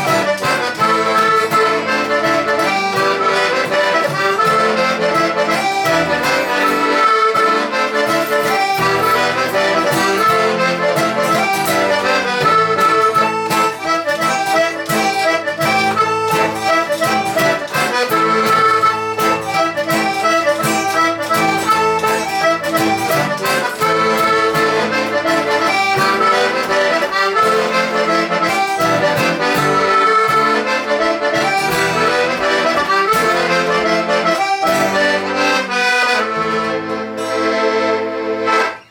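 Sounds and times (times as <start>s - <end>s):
accordion tune: 0.0s - 38.9s
guitar accompaniment: 0.0s - 38.9s.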